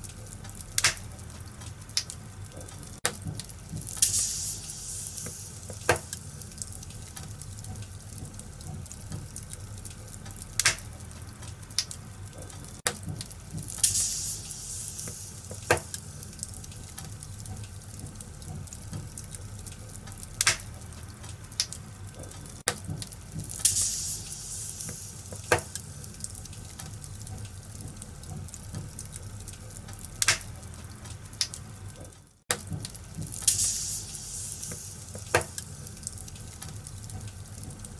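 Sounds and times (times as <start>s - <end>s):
fire popping: 0.0s - 37.9s
wood fire crackling: 0.0s - 37.9s.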